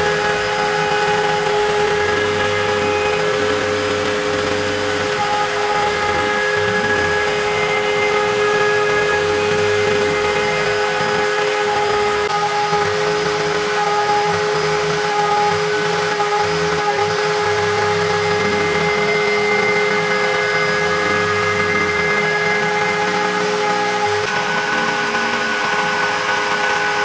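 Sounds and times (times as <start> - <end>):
metal cutting noise: 0.0 - 27.0
router spindle whine: 0.0 - 27.0.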